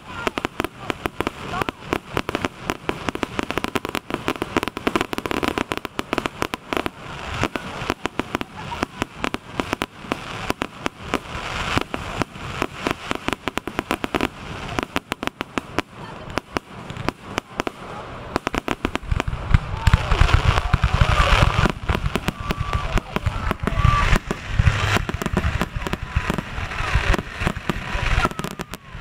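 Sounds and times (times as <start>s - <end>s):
fireworks popping and banging: 0.0s - 29.0s.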